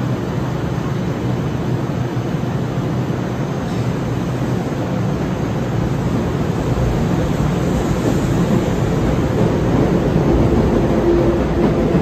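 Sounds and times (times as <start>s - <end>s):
electric train rolling past: 0.0s - 12.0s.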